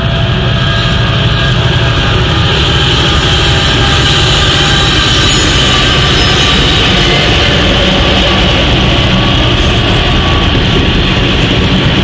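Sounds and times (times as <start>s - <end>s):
diesel locomotives passing: 0.0s - 12.0s
high whining tones: 0.0s - 12.0s.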